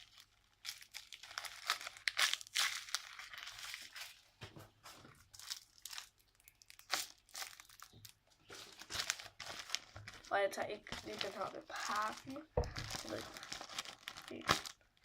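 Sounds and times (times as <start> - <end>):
paper and tape crinkling: 0.0 - 15.0.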